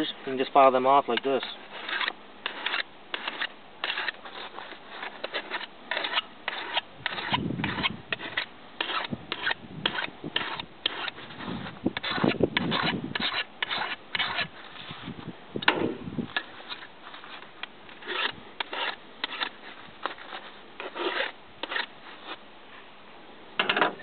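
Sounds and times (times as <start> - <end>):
file scraping on steel: 1.7 - 15.0, 16.4 - 22.4.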